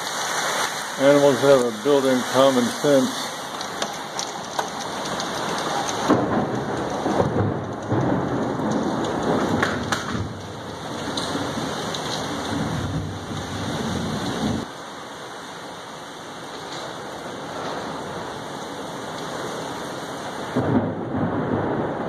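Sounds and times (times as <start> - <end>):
heavy rain falling: 0.0 - 22.0
thunder rumbling: 1.1 - 14.7, 16.6 - 22.0.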